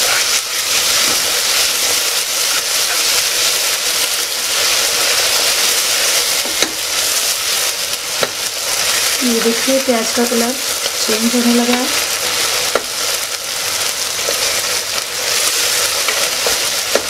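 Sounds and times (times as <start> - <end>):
loud frying hiss: 0.0 - 17.0
vegetables sizzling in hot oil: 0.0 - 17.0.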